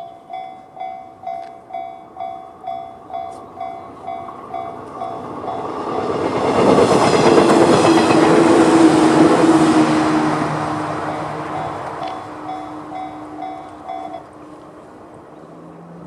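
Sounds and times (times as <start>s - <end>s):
crossing warning bell ringing: 0.0s - 16.0s
electric train passing: 0.0s - 16.0s.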